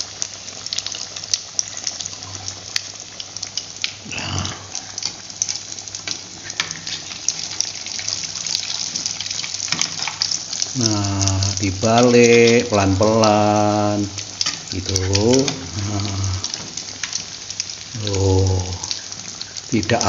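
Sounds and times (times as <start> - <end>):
potato fritters deep-frying in oil: 0.0 - 20.0.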